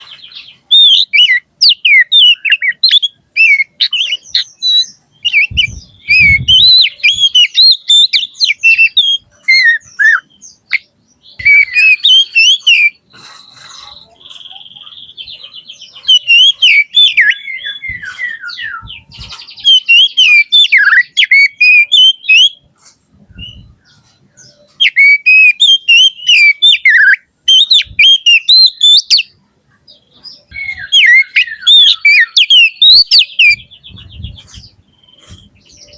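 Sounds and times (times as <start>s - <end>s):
buzzy bird trill: 0.0s - 22.7s, 23.4s - 29.3s, 29.9s - 35.9s
bird singing whistles and chatter: 0.0s - 35.9s.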